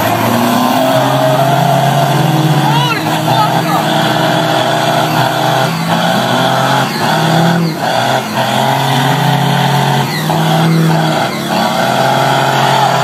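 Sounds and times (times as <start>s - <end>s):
truck engine revving: 0.0s - 13.0s
tyres spinning: 0.0s - 13.0s.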